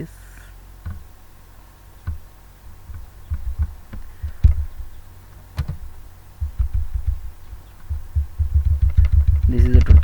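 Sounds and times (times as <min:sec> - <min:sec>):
low thuds: 0:00.8 - 0:01.3, 0:02.0 - 0:10.0.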